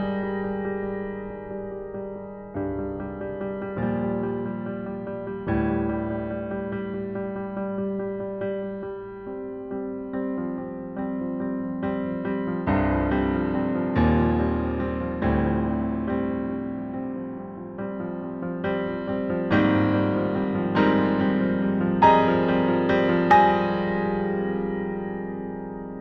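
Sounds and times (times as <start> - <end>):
slow solo piano: 0.0 - 26.0.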